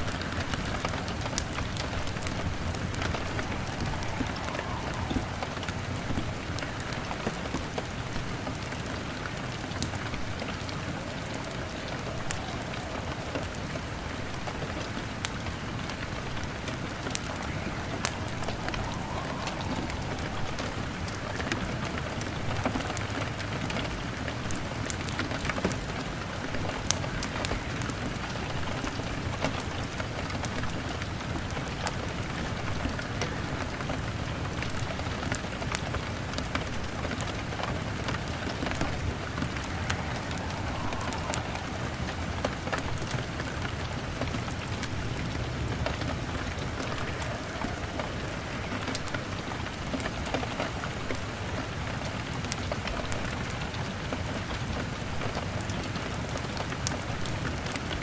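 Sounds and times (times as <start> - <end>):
wood fire crackling: 0.0 - 53.6
rain on window glass: 0.0 - 58.0.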